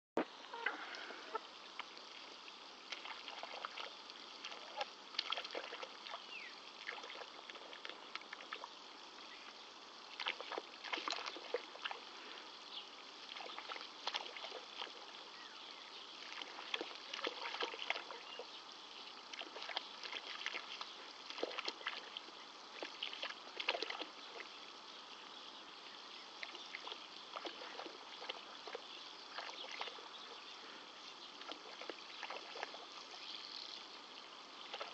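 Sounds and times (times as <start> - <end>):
hens pecking in puddle: 0.2 - 34.9.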